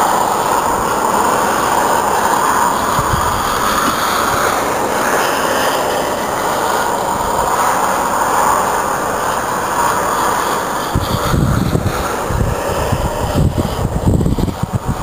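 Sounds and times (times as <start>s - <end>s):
car tyres on snowy road: 0.0s - 15.0s.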